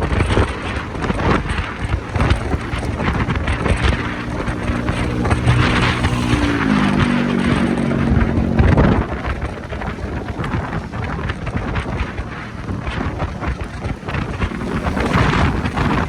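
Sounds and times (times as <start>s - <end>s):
motorcycle engine: 0.0s - 16.0s
wind rushing on microphone: 0.0s - 16.0s.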